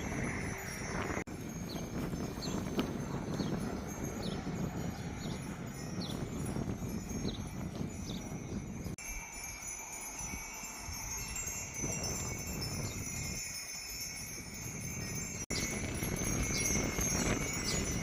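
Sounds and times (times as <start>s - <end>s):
wind chimes tinkling: 0.0s - 18.0s.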